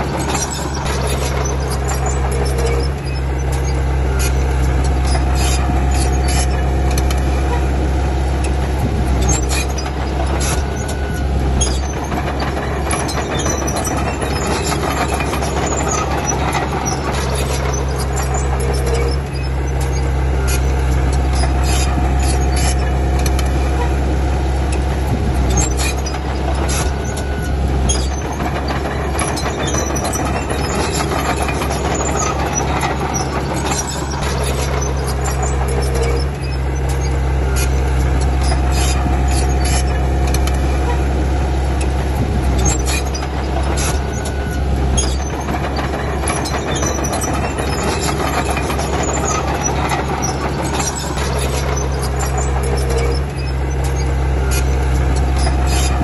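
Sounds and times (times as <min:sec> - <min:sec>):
bulldozer diesel engine running: 0:00.0 - 0:56.0
steel tracks clanking and squeaking: 0:00.0 - 0:56.0.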